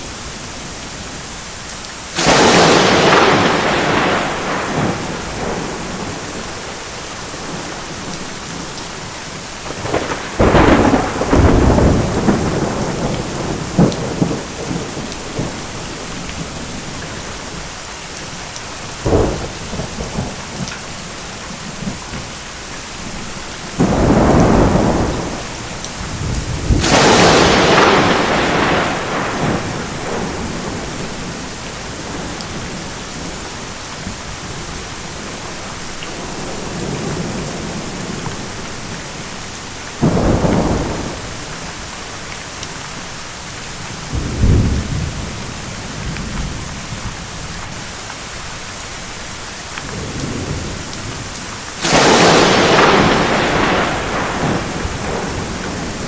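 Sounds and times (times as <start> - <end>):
steady rain falling: 0.0 - 56.0
thunder cracking and rumbling: 2.2 - 17.6, 18.8 - 22.3, 23.0 - 39.3, 40.0 - 42.0, 43.4 - 47.8, 49.8 - 56.0.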